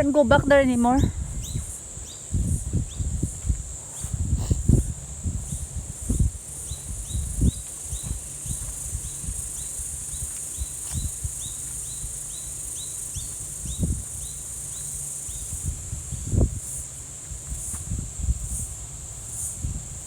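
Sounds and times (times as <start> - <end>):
high insect buzz: 0.0 - 20.0.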